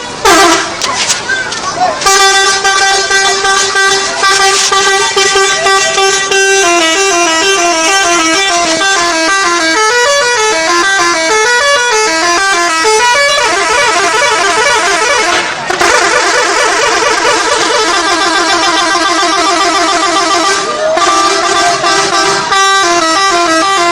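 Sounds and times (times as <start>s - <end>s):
multi-tone musical bus horn: 0.1s - 1.0s, 2.0s - 23.9s.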